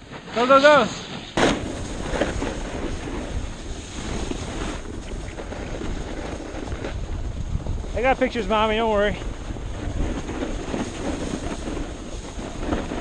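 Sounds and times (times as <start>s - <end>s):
skis sliding over snow: 0.0s - 13.0s
wind rushing over microphone: 0.0s - 13.0s.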